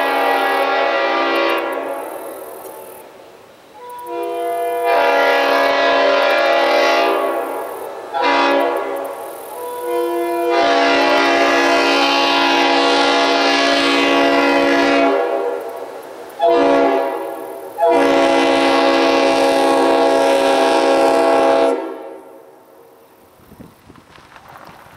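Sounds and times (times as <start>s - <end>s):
locomotive air horn blasts: 0.0s - 2.0s, 3.8s - 22.5s.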